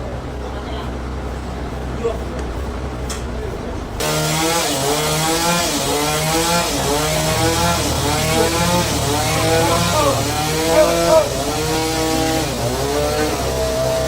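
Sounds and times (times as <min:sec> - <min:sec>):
sawmill engine running under load: 0:00.0 - 0:14.0.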